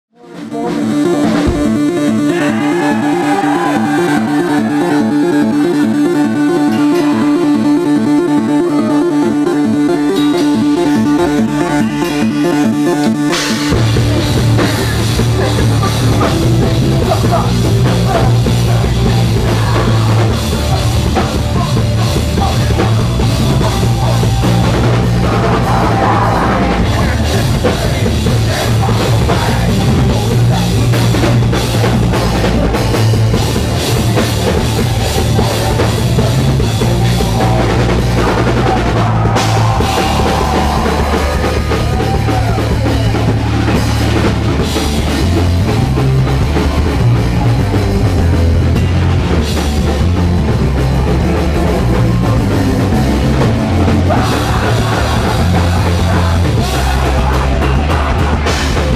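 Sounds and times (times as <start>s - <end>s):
live metal band playing: 0.2s - 58.9s.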